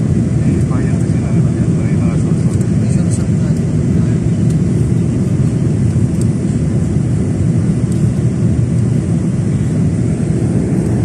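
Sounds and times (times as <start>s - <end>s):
jet airliner cabin noise: 0.0s - 11.0s.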